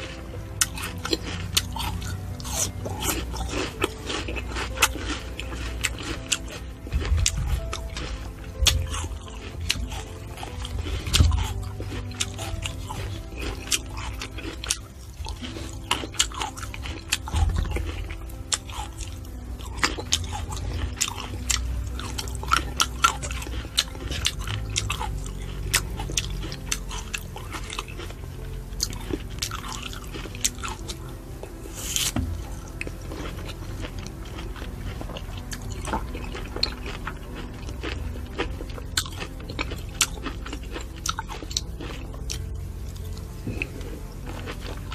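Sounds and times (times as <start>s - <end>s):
person chewing fruit: 0.0s - 44.9s.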